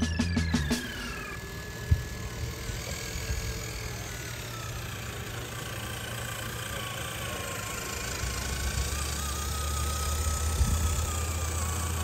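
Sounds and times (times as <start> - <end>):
rc truck motor whine: 0.0 - 12.0.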